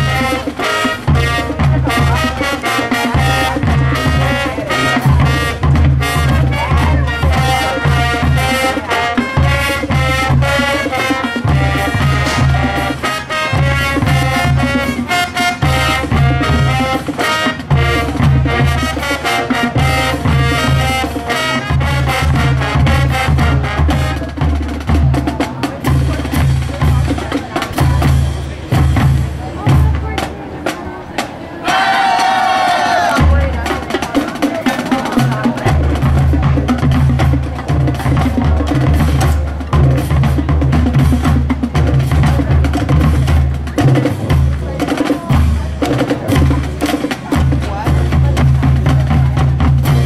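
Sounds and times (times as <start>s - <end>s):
marching band playing: 0.0s - 50.0s.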